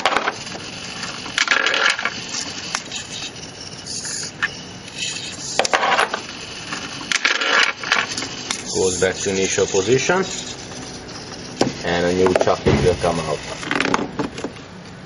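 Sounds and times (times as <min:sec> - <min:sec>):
servo motors whirring: 0:00.0 - 0:14.0.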